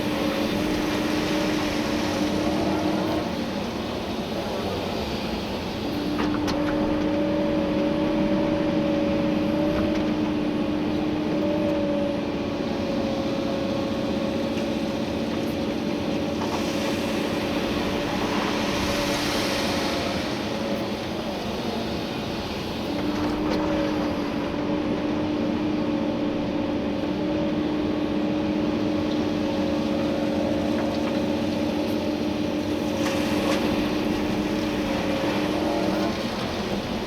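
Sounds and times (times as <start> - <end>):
excavator engine and hydraulics: 0.0 - 37.0
steady whine: 0.0 - 37.0.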